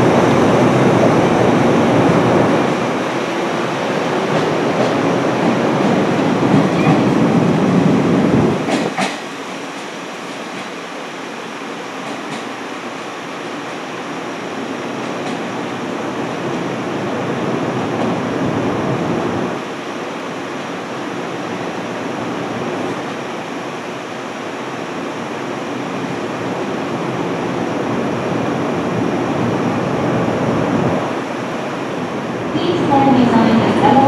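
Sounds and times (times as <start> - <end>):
electric train rumbling: 0.0 - 34.0.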